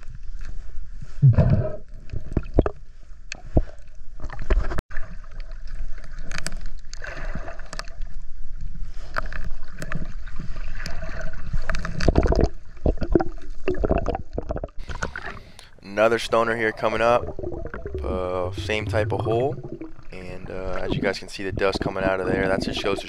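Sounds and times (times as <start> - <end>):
muffled underwater water rush: 0.6 - 23.0.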